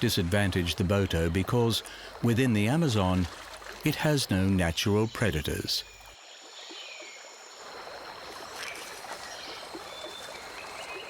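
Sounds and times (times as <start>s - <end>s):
running water lapping: 0.0s - 11.0s.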